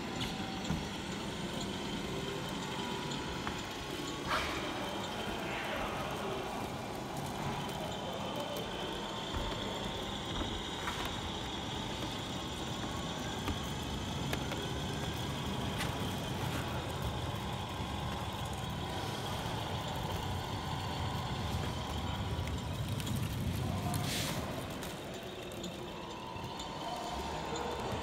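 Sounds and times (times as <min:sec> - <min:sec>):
model truck engine rumble: 0:00.0 - 0:28.0.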